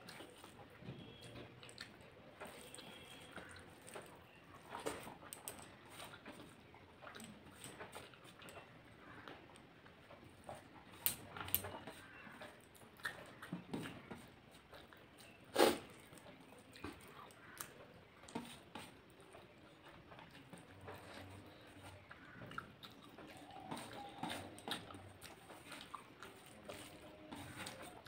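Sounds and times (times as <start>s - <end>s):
person chewing: 0.1s - 8.6s, 11.8s - 28.0s.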